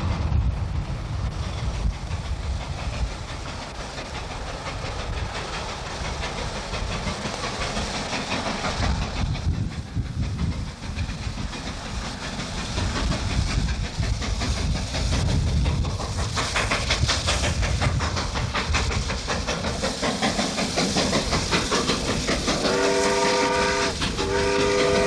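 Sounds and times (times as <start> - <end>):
heavy low rumble: 0.0 - 22.6
steam hissing: 0.0 - 25.0
steam locomotive chuffing: 0.0 - 25.0.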